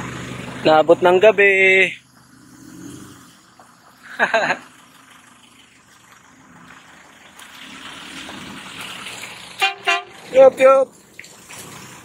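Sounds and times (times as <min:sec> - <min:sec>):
car running noise: 0:00.0 - 0:12.0.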